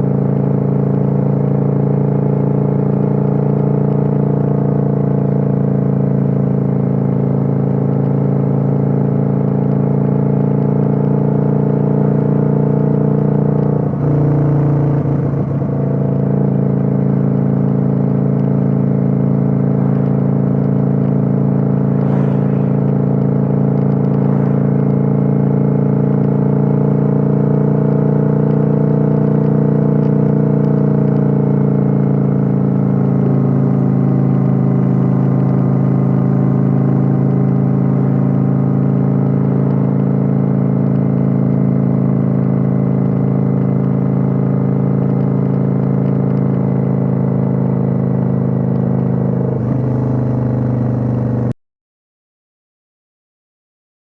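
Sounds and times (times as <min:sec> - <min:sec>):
motorcycle engine running: 0:00.0 - 0:51.6.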